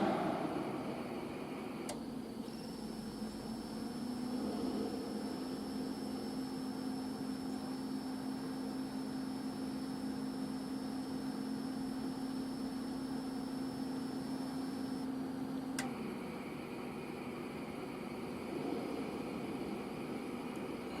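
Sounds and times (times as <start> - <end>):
faint high whine: 0.0 - 21.0
fan unit electrical hum: 0.0 - 21.0.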